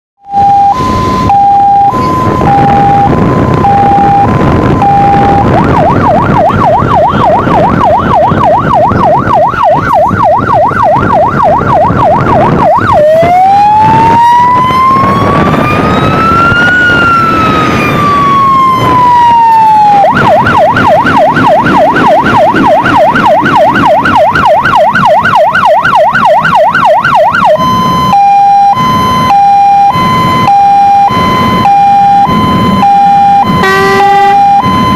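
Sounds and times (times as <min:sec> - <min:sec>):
fire engine siren: 0:00.2 - 0:34.9
truck engine rumbling: 0:00.2 - 0:34.9.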